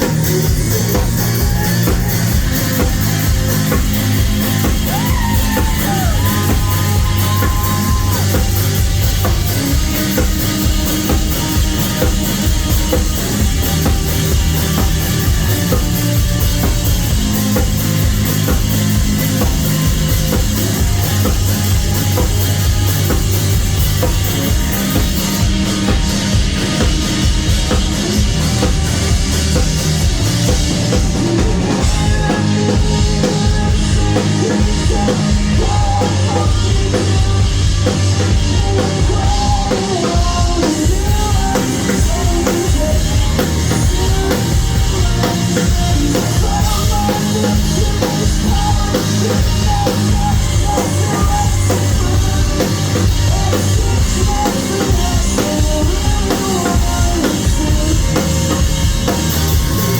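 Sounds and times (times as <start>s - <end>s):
drum kit beat: 0.0s - 59.9s
electric guitars: 0.0s - 59.9s.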